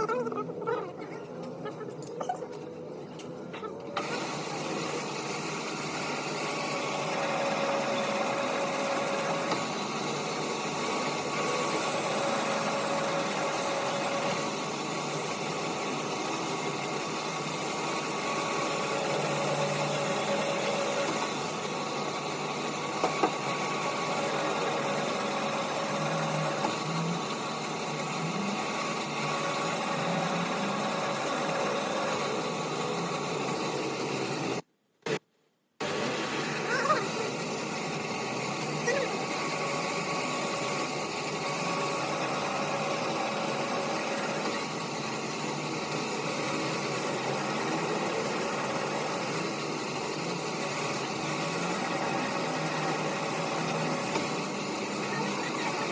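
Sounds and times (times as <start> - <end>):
machine running: 0.0 - 35.2, 35.8 - 55.9.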